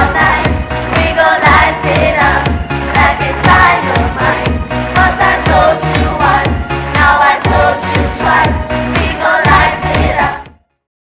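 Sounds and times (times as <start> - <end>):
show choir singing in unison: 0.0 - 10.5
pop backing track: 0.0 - 10.6.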